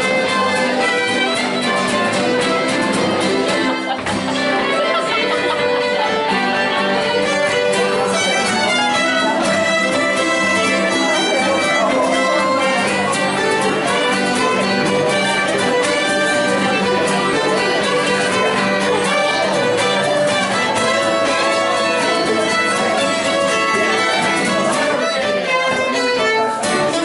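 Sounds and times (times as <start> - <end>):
acoustic guitar strumming: 0.0 - 27.0
fiddles playing folk tune: 0.0 - 27.0
mandolin: 0.0 - 27.0.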